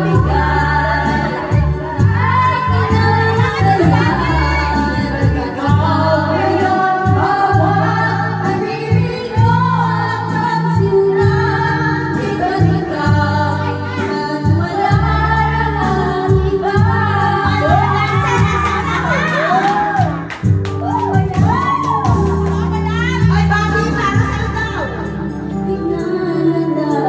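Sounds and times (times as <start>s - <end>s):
backing track with pulsing bass: 0.0s - 13.6s, 14.3s - 26.9s
woman singing karaoke: 0.0s - 27.0s.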